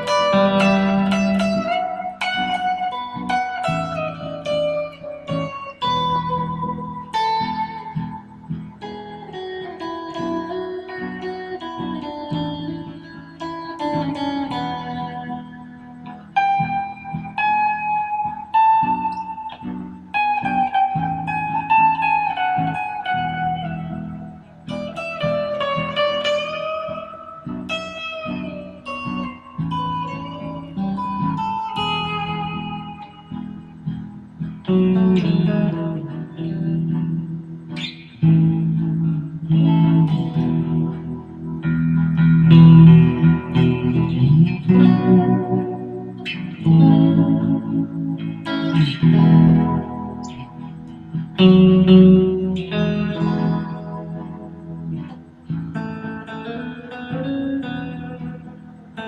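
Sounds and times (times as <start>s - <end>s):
electric guitar chords: 0.0s - 59.0s
electric guitar melody: 0.0s - 59.0s.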